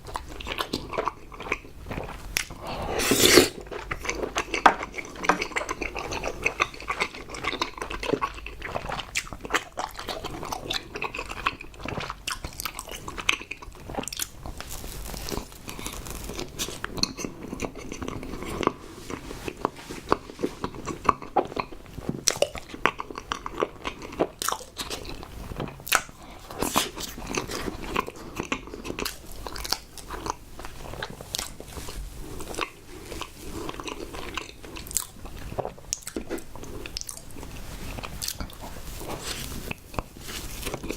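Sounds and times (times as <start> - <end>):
person biting and chewing food: 0.0 - 40.9.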